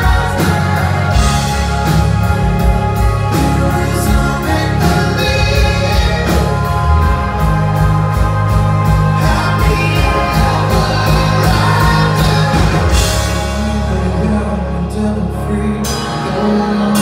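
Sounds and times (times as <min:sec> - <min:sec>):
drums beating: 0:00.0 - 0:14.4
live rock band playing: 0:00.0 - 0:17.0
person singing: 0:00.0 - 0:17.0.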